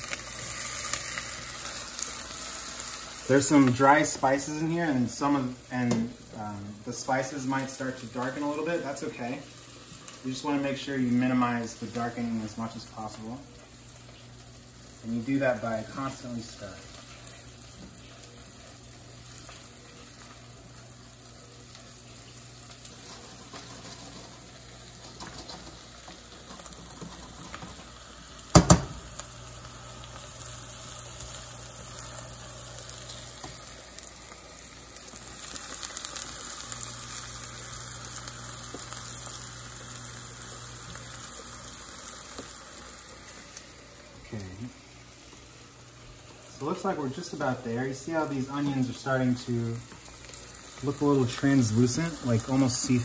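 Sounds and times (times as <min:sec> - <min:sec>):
onions sizzling in a pan: 0:00.0 - 0:53.0.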